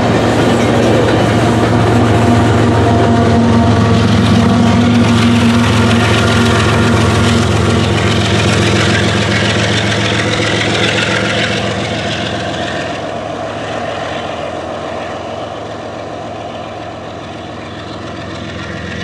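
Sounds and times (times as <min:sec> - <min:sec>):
diesel locomotive engine hum: 0:00.0 - 0:19.0
wheels clattering on rails: 0:00.0 - 0:19.0.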